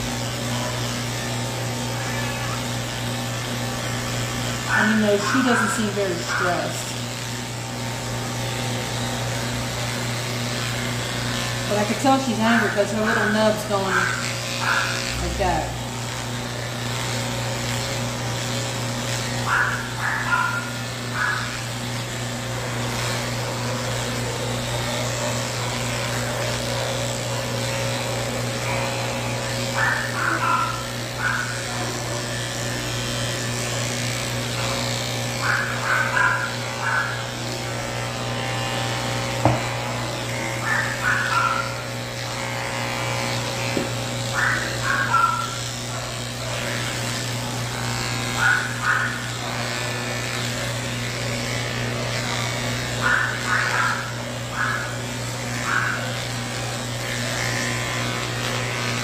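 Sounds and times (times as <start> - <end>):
electric clippers humming: 0.0 - 59.0.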